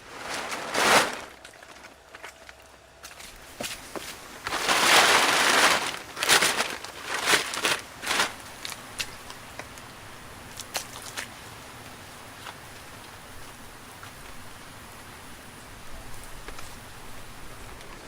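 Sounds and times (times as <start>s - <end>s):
dry brush rustling and crunching: 0.0s - 14.6s.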